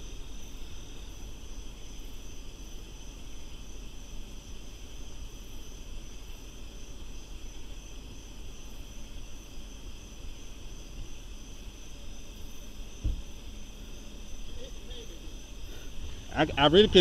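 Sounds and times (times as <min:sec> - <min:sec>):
constant low rumble: 0:00.0 - 0:17.0
night insects chirping: 0:00.0 - 0:17.0.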